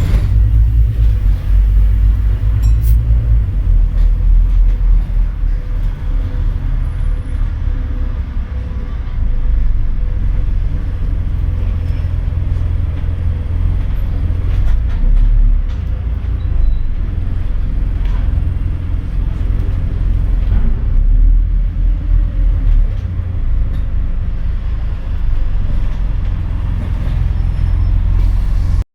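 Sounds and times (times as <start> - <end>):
bus diesel engine rumble: 0.0 - 28.9.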